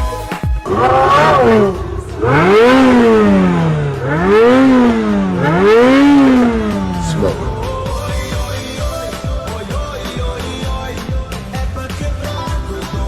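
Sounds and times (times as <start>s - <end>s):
jet ski engine revving: 0.6s - 12.9s.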